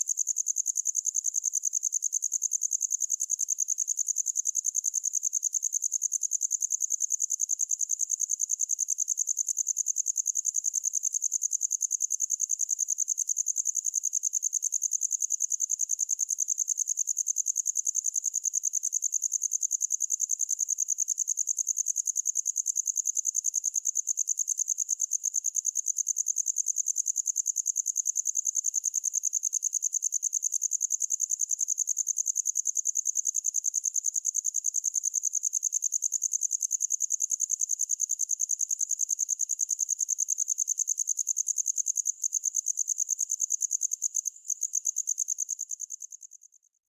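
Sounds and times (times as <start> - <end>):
cricket chirping: 0.0 - 46.7.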